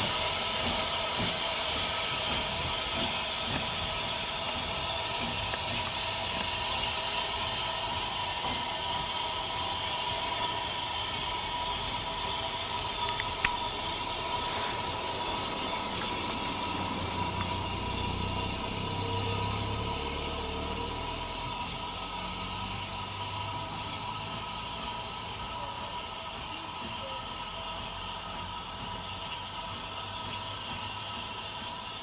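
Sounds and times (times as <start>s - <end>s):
steam locomotive hissing: 0.0s - 32.0s.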